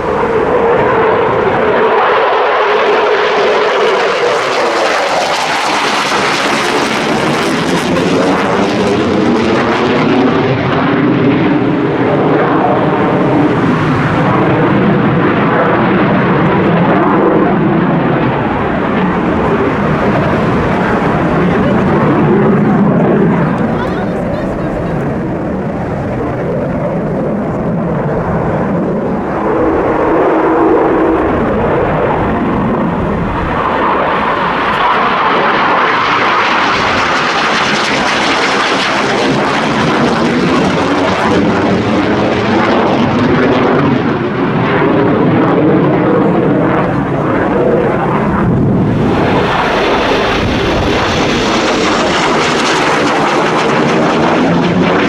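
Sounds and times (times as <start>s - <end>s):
jet aircraft taking off: 0.0s - 55.0s.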